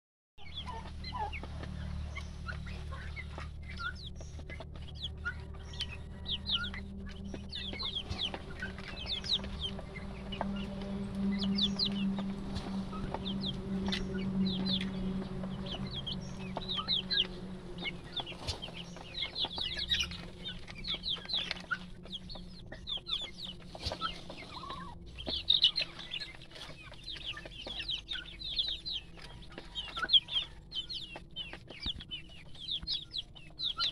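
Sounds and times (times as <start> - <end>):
chicks peeping: 0.4 - 33.9
low steady hum: 0.4 - 33.9.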